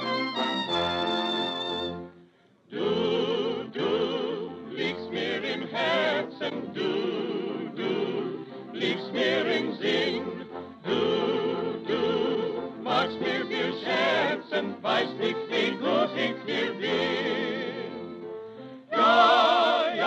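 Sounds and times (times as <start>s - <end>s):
music with vibrato melody: 0.0s - 20.0s.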